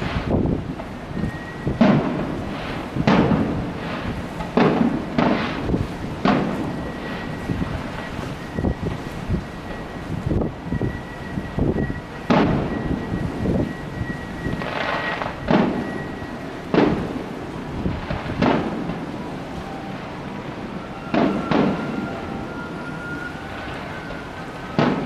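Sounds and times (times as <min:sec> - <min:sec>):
fireworks bangs: 0:00.0 - 0:10.9, 0:11.5 - 0:25.0
crackling firework burst: 0:00.0 - 0:25.0.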